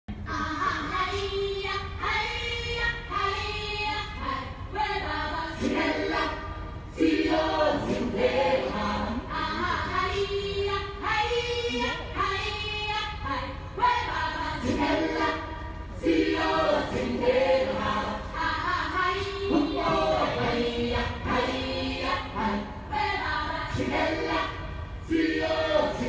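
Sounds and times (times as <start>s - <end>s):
choir singing: 0.3s - 26.0s.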